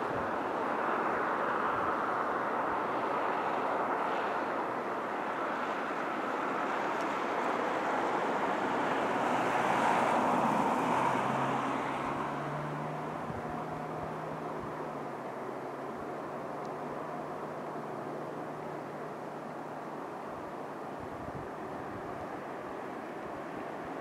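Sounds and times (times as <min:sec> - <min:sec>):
low hum of train: 0:00.0 - 0:24.0.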